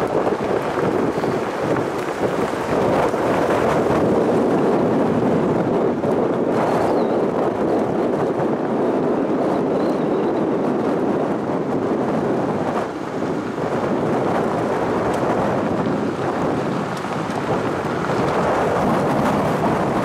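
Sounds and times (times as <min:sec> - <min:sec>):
road and wind noise of car: 0:00.0 - 0:20.0.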